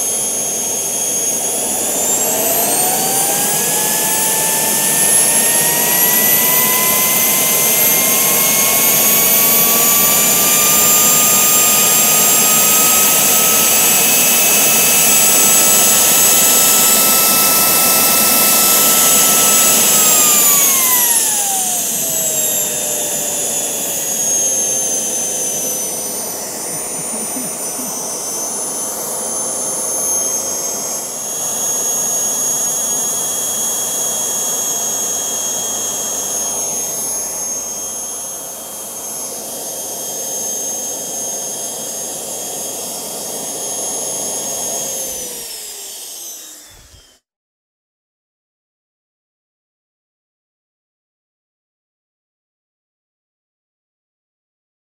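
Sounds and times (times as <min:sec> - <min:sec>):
gas turbine whine: 0:00.0 - 0:47.1.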